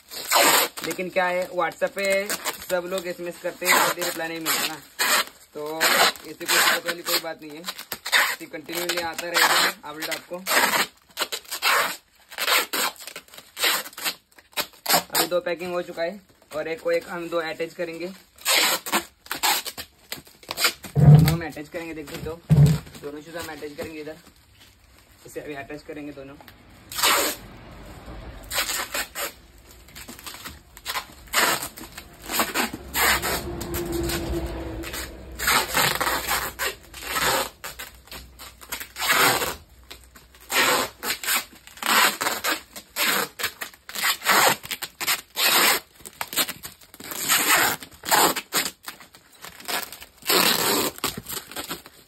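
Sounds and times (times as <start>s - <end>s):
packing tape ripping off roll: 0.0s - 52.0s.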